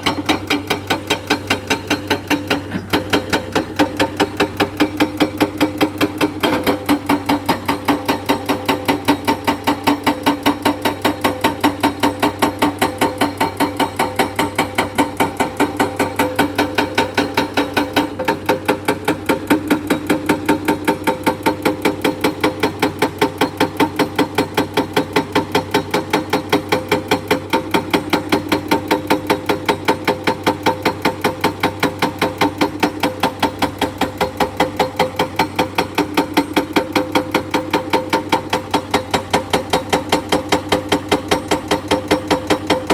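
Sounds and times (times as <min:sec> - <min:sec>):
hydraulic breaker hammering rock: 0:00.0 - 0:42.9.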